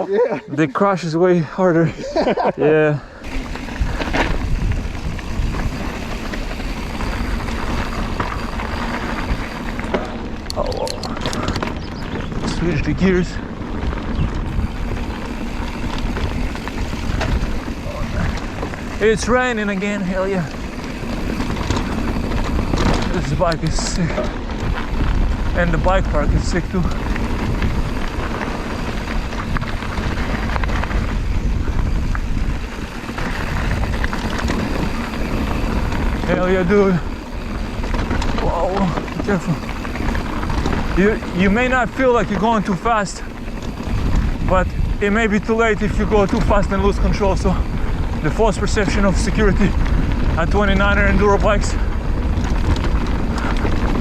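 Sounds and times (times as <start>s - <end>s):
bike tyre noise on dirt: 0.8s - 54.0s
bike clicks and rattles: 3.2s - 54.0s
wind rumbling on microphone: 3.2s - 54.0s.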